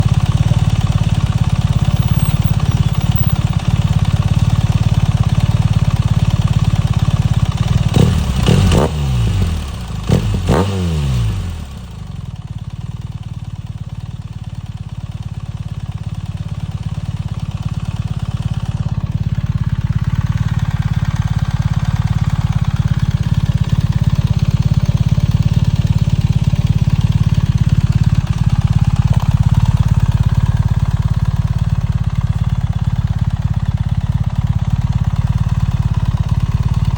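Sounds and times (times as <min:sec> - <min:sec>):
motorcycle engine idling and revving: 0:00.0 - 0:36.9.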